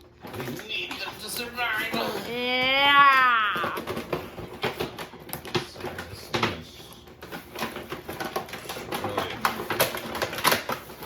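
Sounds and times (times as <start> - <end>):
cardboard and plastic crinkling: 0.0 - 11.0.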